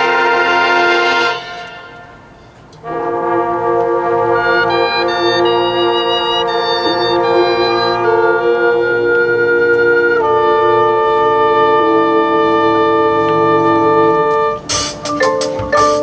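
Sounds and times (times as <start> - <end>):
marching band holding chords: 0.0 - 16.0.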